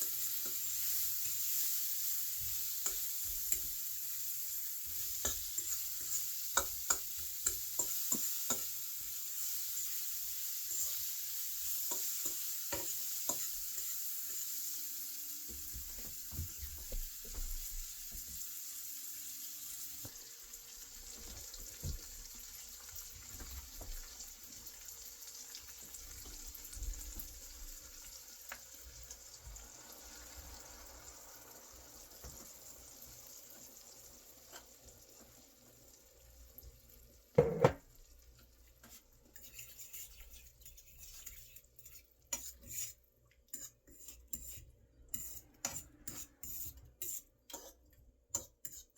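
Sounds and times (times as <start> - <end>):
food sizzling in a frying pan: 0.0 - 48.9.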